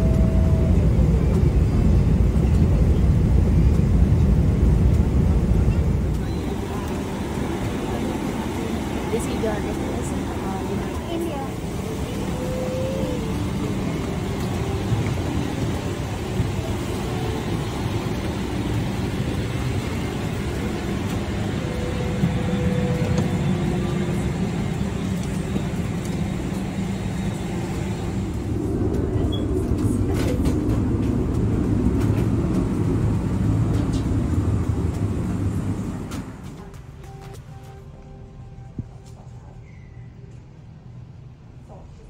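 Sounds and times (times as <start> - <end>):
cabin air system rumble: 0.0 - 40.4.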